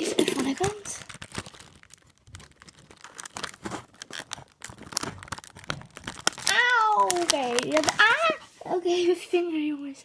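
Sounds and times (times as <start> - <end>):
packaging crinkling and tearing: 0.0 - 8.5.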